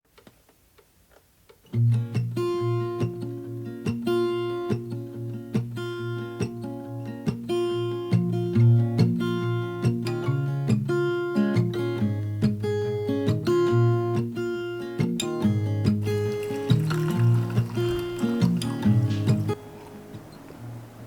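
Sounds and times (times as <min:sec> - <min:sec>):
acoustic guitar strumming: 0:01.7 - 0:21.0.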